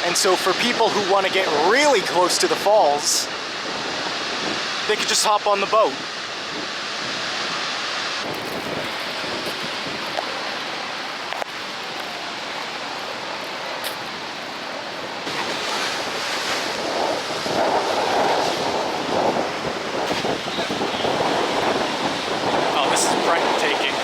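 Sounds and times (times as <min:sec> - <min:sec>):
waterfall roaring: 0:00.0 - 0:24.0
wind on microphone: 0:02.7 - 0:05.0, 0:06.0 - 0:12.4, 0:13.2 - 0:24.0.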